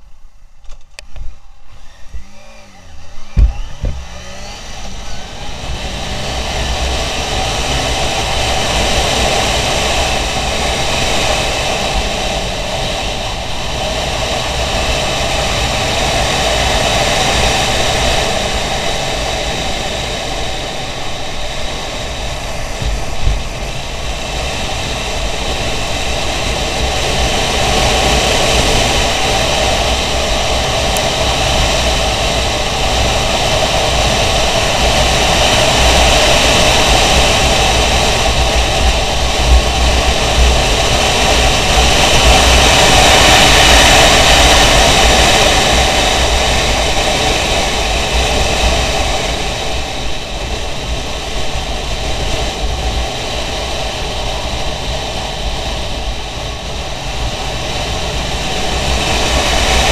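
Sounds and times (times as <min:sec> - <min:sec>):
motorcycle engine running: 0:00.0 - 0:59.9
wind rushing over camera: 0:00.0 - 0:59.9.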